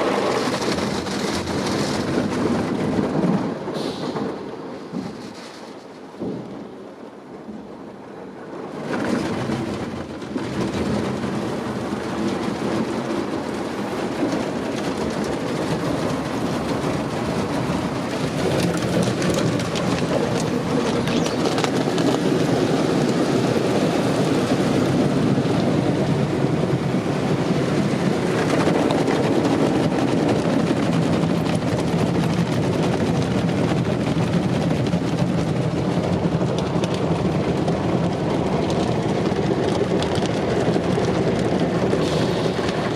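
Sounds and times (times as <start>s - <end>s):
car wash machinery running: 7.5s - 42.9s.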